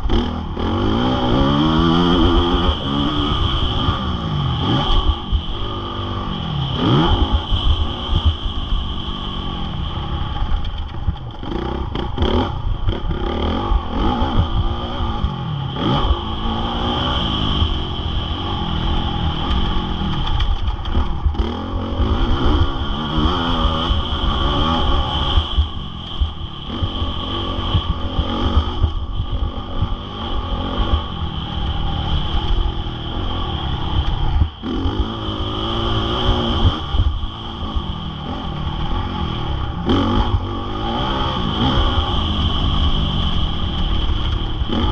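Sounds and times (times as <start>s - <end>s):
heavy low rumble: 0.0s - 44.9s
motocross bike engine revving: 0.0s - 44.9s.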